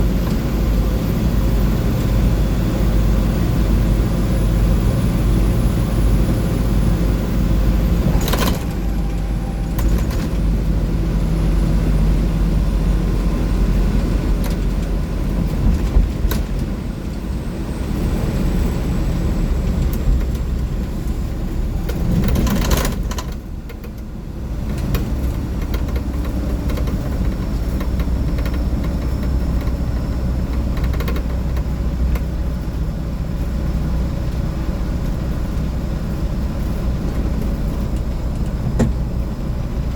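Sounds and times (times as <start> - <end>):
bus engine and road noise drone: 0.0 - 39.9
bus jolt: 0.0 - 39.9.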